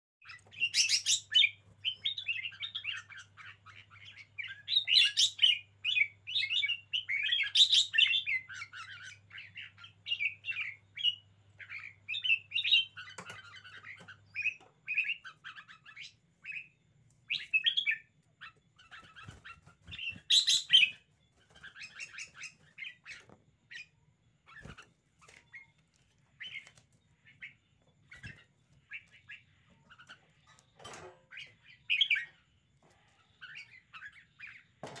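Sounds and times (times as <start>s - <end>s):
bird singing and chattering: 0.2s - 32.4s.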